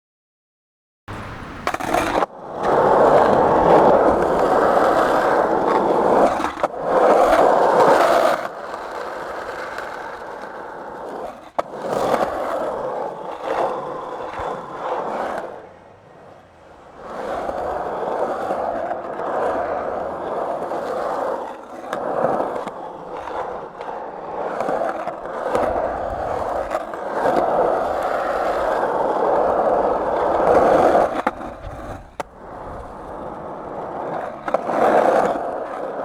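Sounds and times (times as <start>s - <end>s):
skateboard wheels rolling on pavement: 1.1s - 36.0s.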